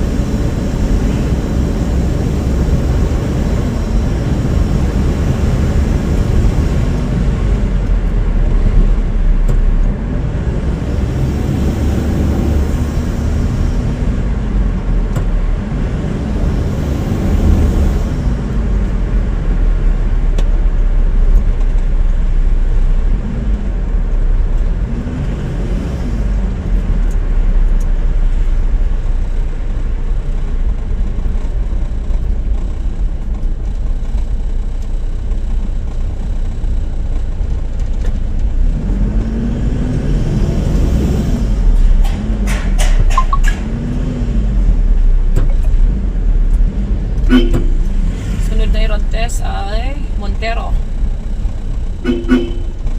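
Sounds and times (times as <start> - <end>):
car engine accelerating: 0.0 - 52.9
road noise: 0.0 - 52.9.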